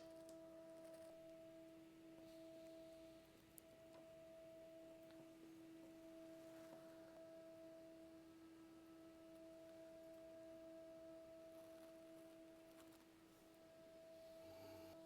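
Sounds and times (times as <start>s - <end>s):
faint two-tone hum: 0.0s - 15.0s.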